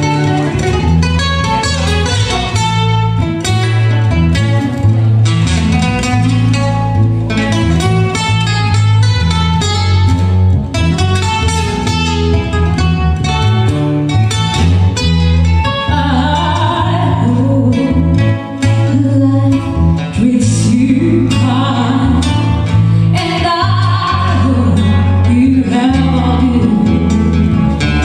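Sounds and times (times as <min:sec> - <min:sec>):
bass line: 0:00.0 - 0:28.0
plucked acoustic guitar: 0:00.0 - 0:28.0.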